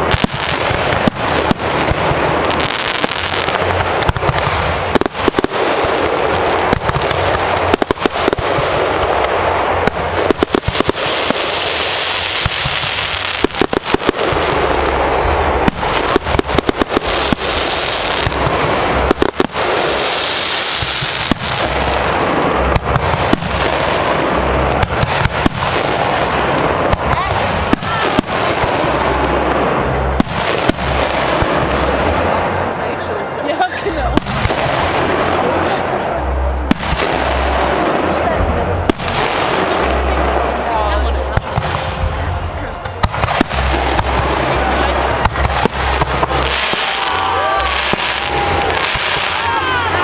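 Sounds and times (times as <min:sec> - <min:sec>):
fireworks crackling: 0:00.0 - 0:50.0.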